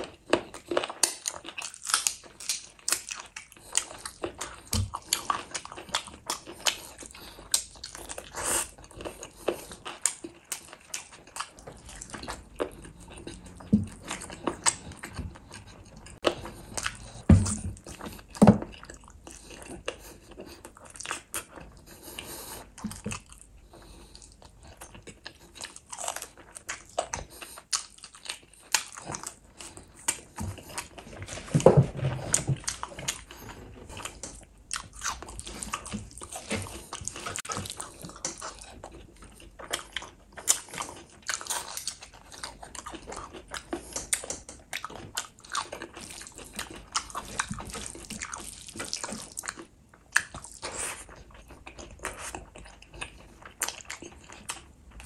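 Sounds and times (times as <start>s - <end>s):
chewing and biting food: 0.0s - 55.0s.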